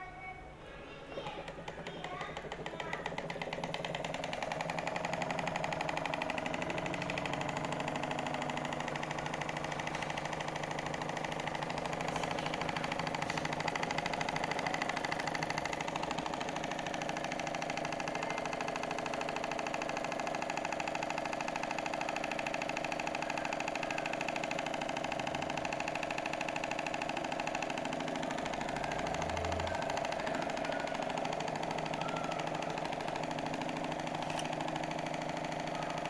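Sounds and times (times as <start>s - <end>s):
model engine mechanical rattle: 1.1s - 36.0s.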